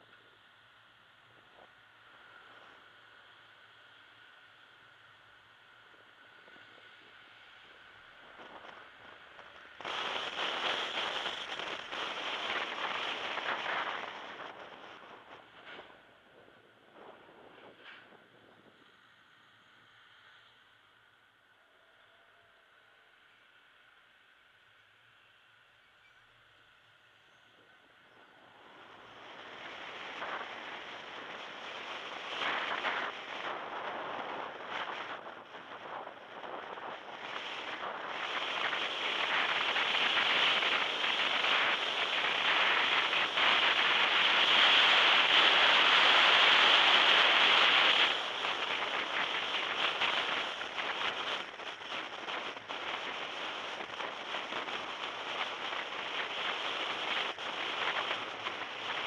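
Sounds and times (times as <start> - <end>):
wind and road noise from car: 0.0 - 21.6, 26.3 - 59.0.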